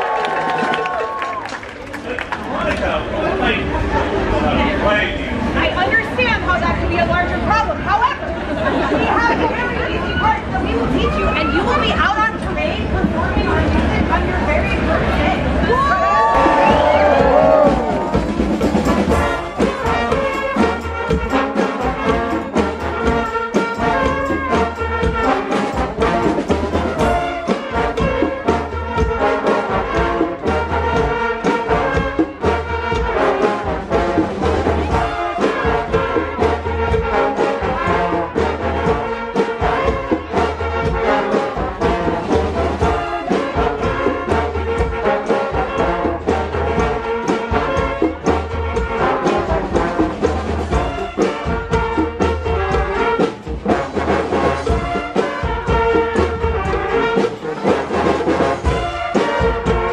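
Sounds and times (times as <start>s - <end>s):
trombones and trumpets: 3.0s - 59.9s
steady drum beat: 5.2s - 59.9s.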